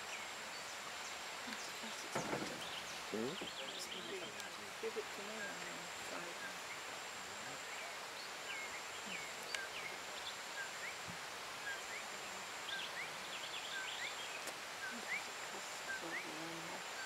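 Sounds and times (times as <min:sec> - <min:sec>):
soft hiss: 0:00.0 - 0:17.0.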